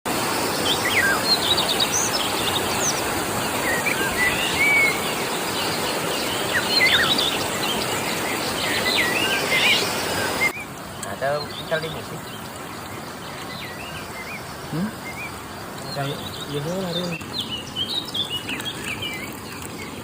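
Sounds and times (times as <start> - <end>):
birds chirping: 0.1 - 20.0
river water rushing: 0.1 - 20.0.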